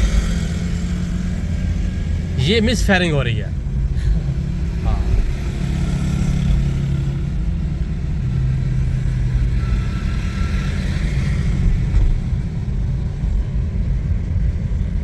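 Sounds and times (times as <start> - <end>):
road rumble: 0.0 - 15.0.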